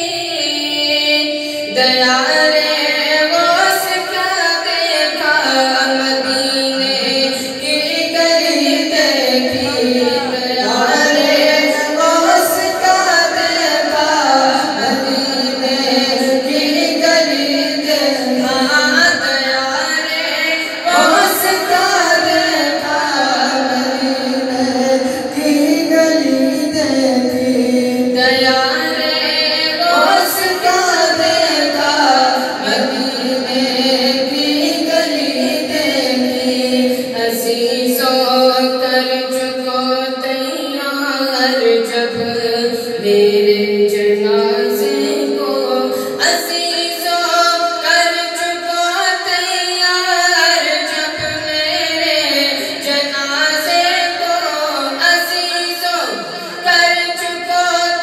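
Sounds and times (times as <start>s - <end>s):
man singing devotional song: 0.0s - 58.0s.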